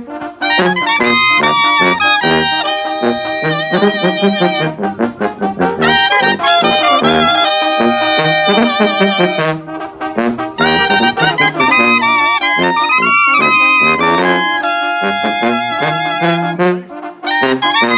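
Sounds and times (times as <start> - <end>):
brass band playing: 0.0 - 17.9.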